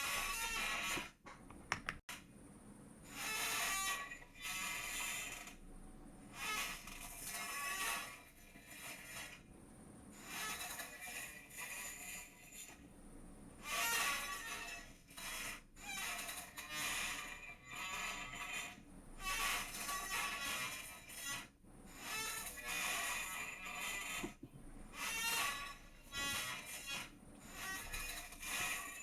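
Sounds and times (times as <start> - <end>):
chair creaking and squeaking: 0.0 - 2.0, 3.1 - 5.6, 6.3 - 9.4, 10.2 - 12.7, 13.6 - 29.0.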